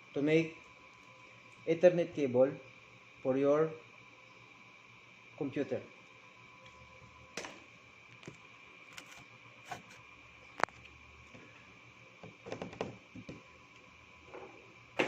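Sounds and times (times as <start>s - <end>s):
faint high whine: 0.0s - 12.3s.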